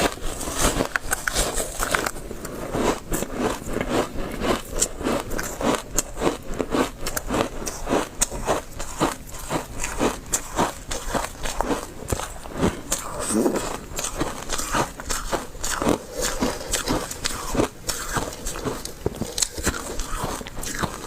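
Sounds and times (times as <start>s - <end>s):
crunching ice: 0.0s - 21.0s.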